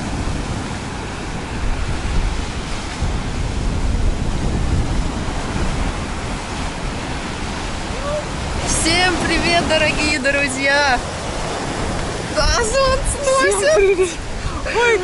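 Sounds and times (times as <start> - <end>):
waves breaking on beach: 0.0 - 15.0
wind rumbling on microphone: 0.0 - 15.0.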